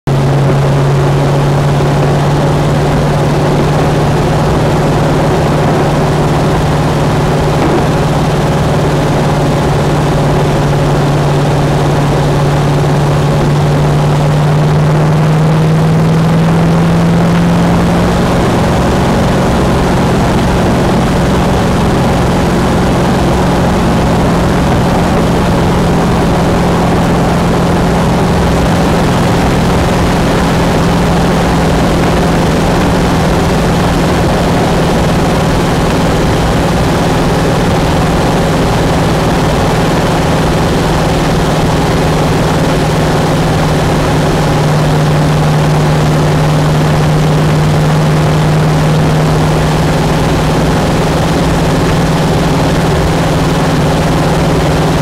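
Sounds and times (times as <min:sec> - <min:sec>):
car engine humming: 0:00.1 - 0:55.0
wind and road noise: 0:00.1 - 0:55.0.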